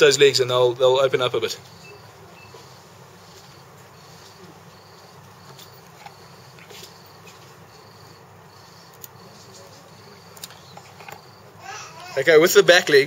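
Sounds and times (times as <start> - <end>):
cricket chirping: 1.5 - 12.4.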